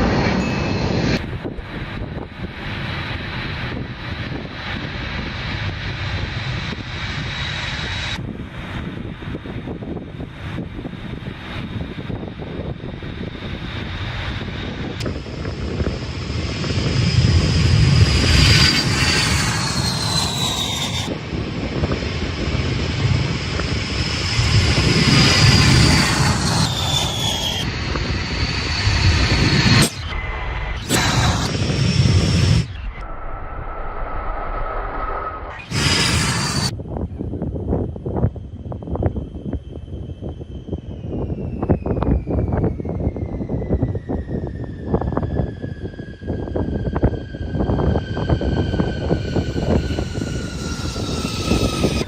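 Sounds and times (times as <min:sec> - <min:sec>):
aircraft passing by: 0:00.0 - 0:52.0
jet engines whining and rumbling: 0:00.0 - 0:52.0.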